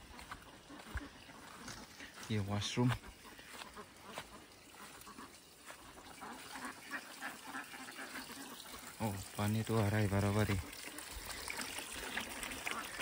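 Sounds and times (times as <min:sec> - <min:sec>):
ducks quacking: 0:00.0 - 0:13.0
trickling water: 0:00.0 - 0:13.0.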